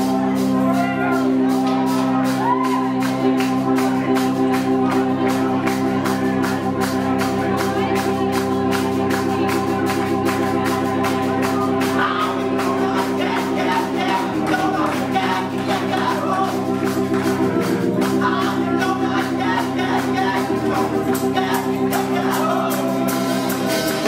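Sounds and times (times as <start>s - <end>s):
organ chords: 0.0s - 24.0s
steady drum beat: 0.0s - 24.0s.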